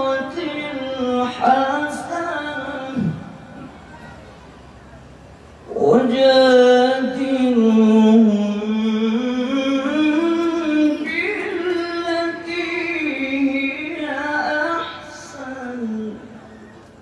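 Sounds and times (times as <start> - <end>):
man reciting melodically: 0.0 - 3.6, 5.7 - 16.5.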